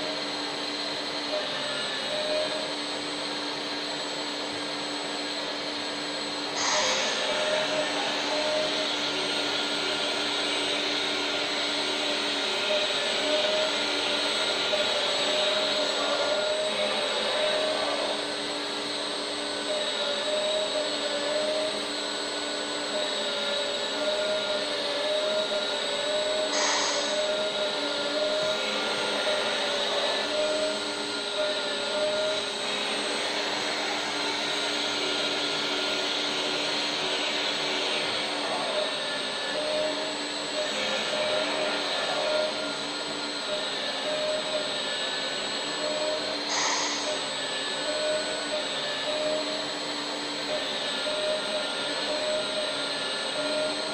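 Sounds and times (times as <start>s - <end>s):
faint motor hum: 0.0s - 53.9s
hydraulic pump whirring: 0.0s - 53.9s.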